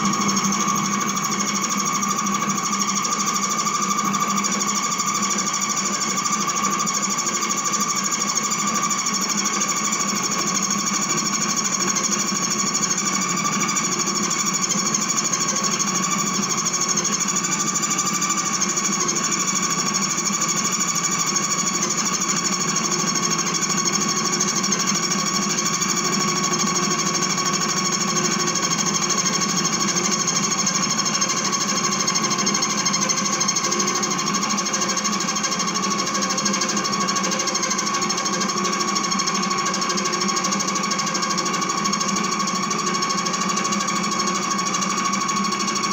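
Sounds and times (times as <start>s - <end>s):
bench lathe turning metal: 0.0s - 45.9s.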